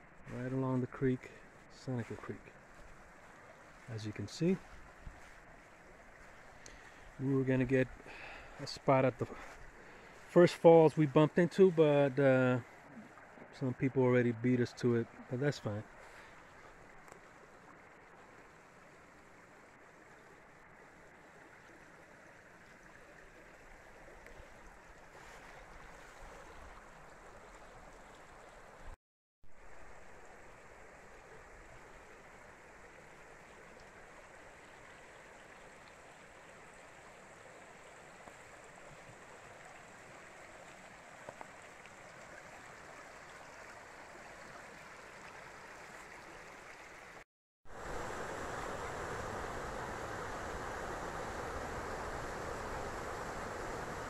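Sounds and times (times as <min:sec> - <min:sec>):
creek running over stones: 0:00.0 - 0:54.0.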